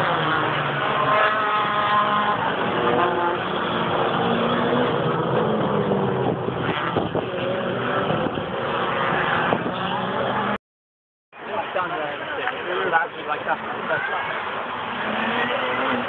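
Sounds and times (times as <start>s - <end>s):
race car engines passing: 0.0s - 10.6s, 11.4s - 16.0s.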